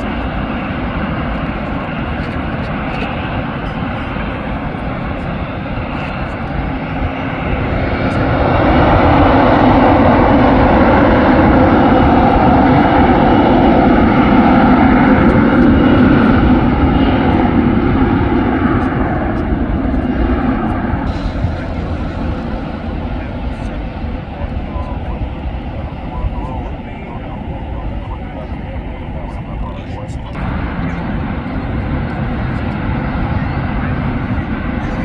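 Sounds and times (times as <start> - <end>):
jet airliner engines: 0.0 - 35.0.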